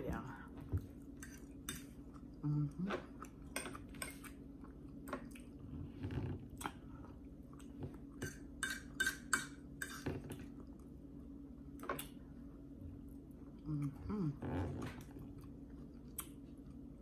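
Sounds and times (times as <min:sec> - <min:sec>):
steady low hum: 0:00.0 - 0:17.0
person chewing food: 0:00.8 - 0:17.0.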